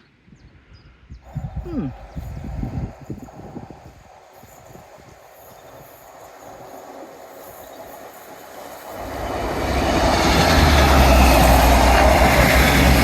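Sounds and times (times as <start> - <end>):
train engine hum: 1.2 - 13.0
train wheel noise: 1.3 - 13.0.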